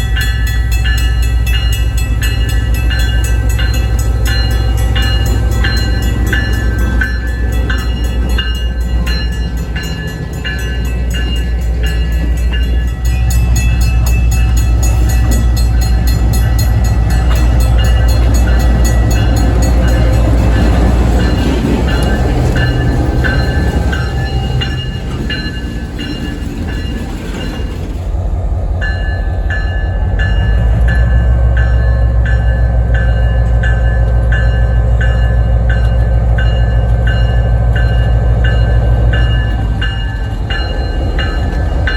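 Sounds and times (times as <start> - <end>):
train engine drone: 0.0 - 41.9.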